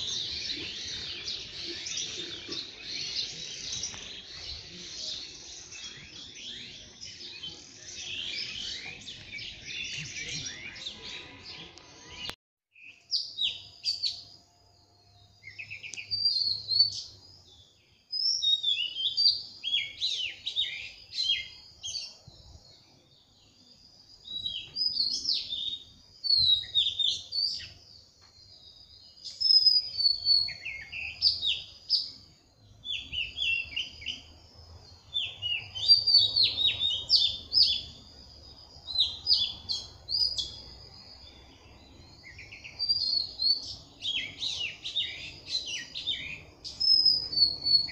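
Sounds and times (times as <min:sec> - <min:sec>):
birds chirping and singing: 0:00.0 - 0:47.9.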